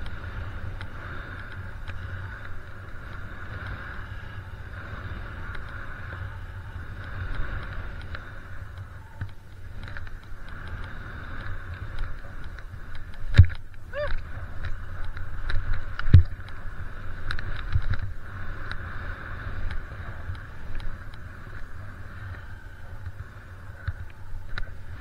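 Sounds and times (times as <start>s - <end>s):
skis sliding through snow: 0.0s - 25.0s
wind on microphone: 0.0s - 25.0s.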